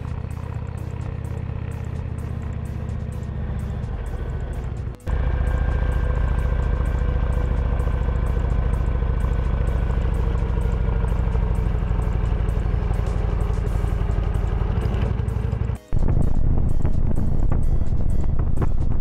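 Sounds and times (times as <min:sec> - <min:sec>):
motorcycle engine running: 0:00.0 - 0:19.0
music: 0:00.0 - 0:19.0.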